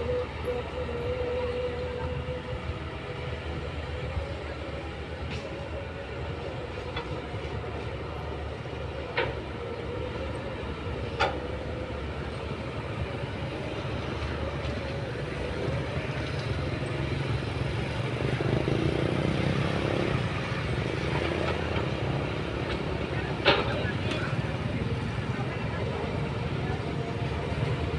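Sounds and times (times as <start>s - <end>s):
diesel engines running: 0.0s - 27.9s.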